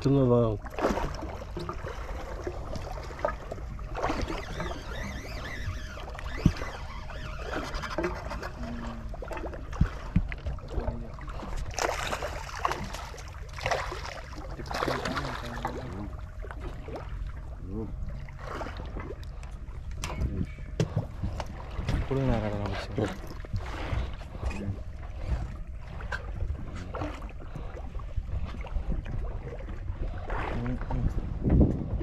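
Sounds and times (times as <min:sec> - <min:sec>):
steady low rumble: 0:00.0 - 0:32.0
water lapping against boat hull: 0:00.0 - 0:32.0.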